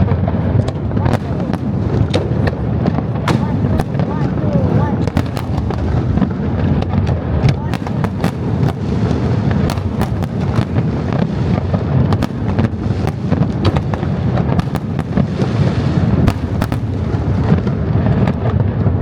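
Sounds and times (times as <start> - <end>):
fireworks booming: 0.0 - 19.0
fireworks crackling and popping: 0.0 - 19.0.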